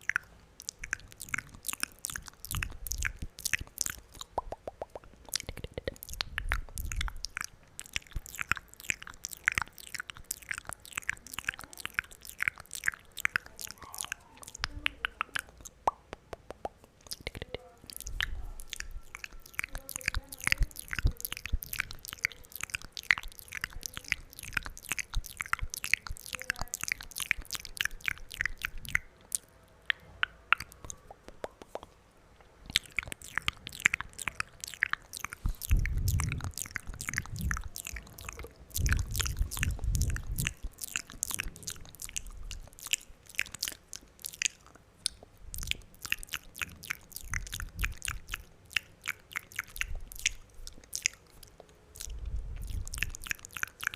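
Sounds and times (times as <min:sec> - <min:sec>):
wet mouth clicks and smacks: 0:00.0 - 0:53.9.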